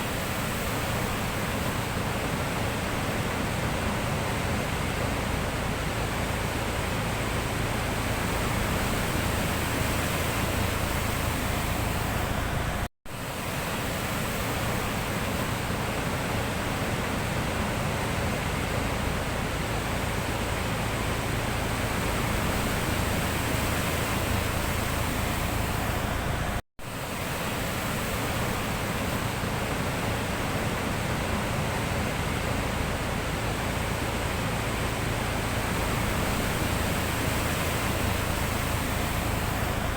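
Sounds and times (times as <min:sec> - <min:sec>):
sea waves rushing: 0:00.0 - 0:39.9.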